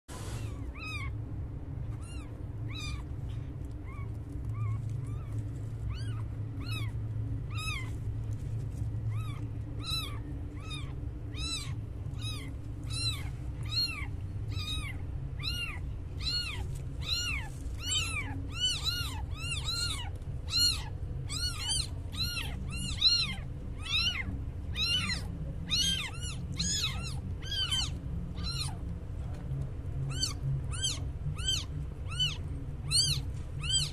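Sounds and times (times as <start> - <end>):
low steady hum: 0.1 - 33.9
kitten mewing: 0.4 - 1.2, 2.0 - 3.1, 3.8 - 7.9, 9.1 - 28.8, 30.0 - 33.9.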